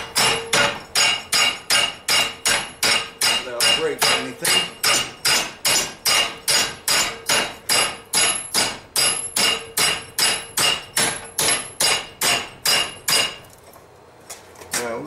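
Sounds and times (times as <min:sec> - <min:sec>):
hammer striking hot metal: 0:00.0 - 0:13.5.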